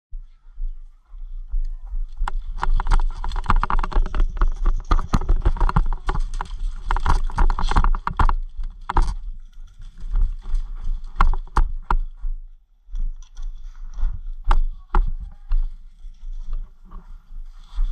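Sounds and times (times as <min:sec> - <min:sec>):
footsteps: 0:00.2 - 0:17.9.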